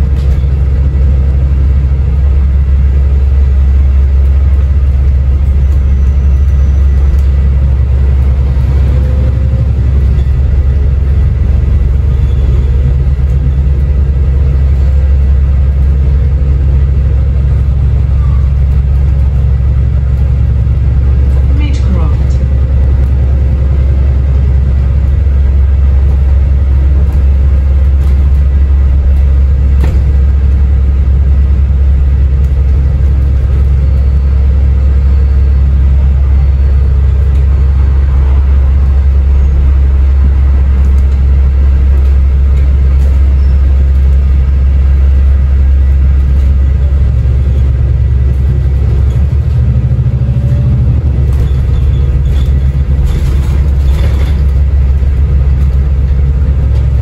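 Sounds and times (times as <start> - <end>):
diesel bus engine drone: 0.0 - 57.0
road rumble: 0.0 - 57.0.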